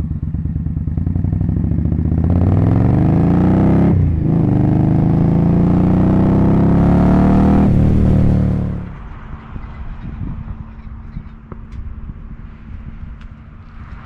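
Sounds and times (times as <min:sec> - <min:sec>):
motorcycle engine accelerating: 0:00.0 - 0:11.3.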